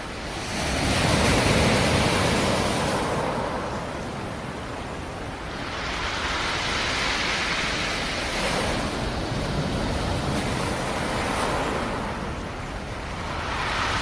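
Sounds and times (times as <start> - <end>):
wave breaking on shore: 0.0 - 14.0.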